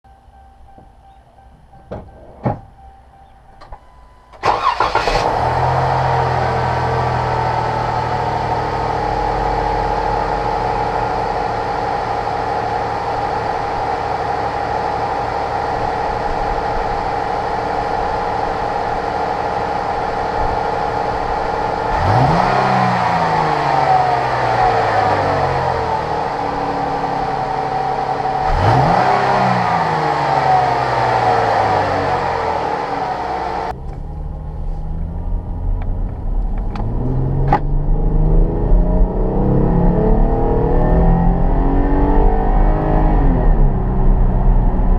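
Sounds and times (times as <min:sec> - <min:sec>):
car engine starting and idling: 0:00.0 - 0:44.9
engine revving: 0:04.4 - 0:44.9.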